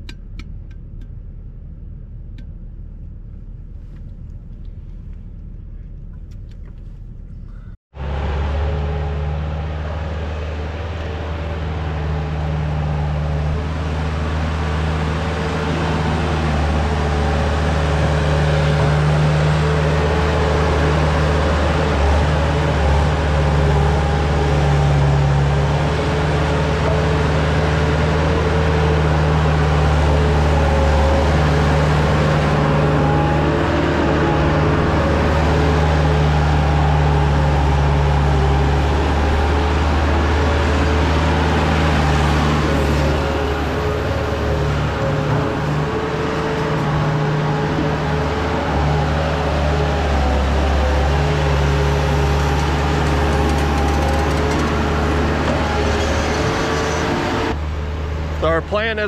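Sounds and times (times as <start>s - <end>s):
loader engine running: 0.0s - 59.0s.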